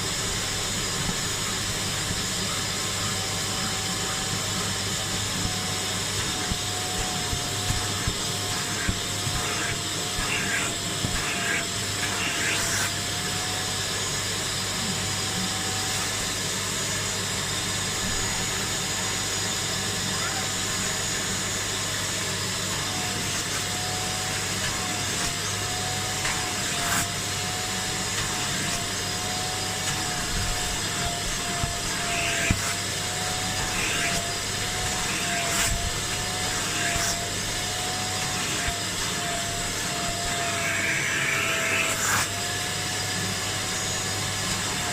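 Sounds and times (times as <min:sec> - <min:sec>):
suction motor whining: 0:00.0 - 0:44.9.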